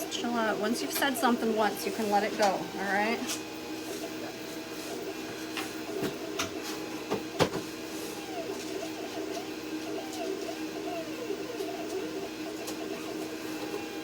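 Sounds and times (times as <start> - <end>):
laser cutter hum: 0.0 - 14.0
motors whirring: 0.0 - 14.0.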